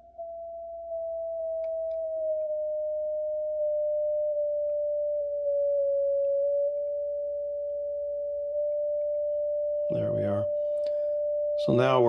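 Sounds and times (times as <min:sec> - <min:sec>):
steady pure tone: 0:00.0 - 0:12.0.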